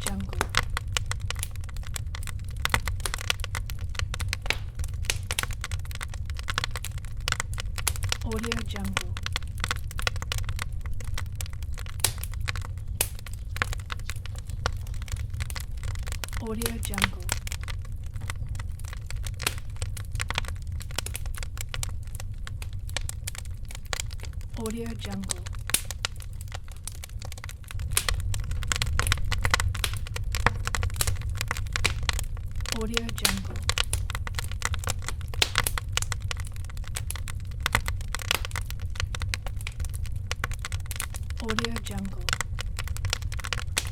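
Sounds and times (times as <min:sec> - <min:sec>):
low rumble: 0:00.0 - 0:37.7
wood fire crackling: 0:00.0 - 0:43.9.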